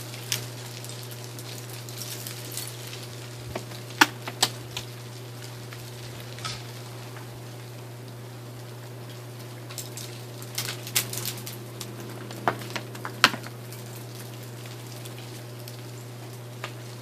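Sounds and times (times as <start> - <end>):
melting ice dripping: 0.0 - 17.0.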